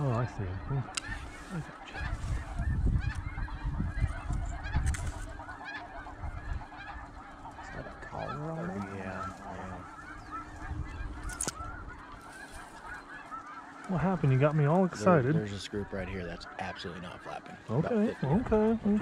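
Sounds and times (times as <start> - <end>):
geese calling: 0.0 - 19.0.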